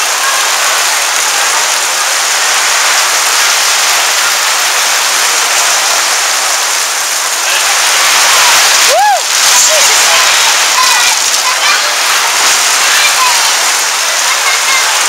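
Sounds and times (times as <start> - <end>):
heavy rain on a canopy: 0.0 - 15.0.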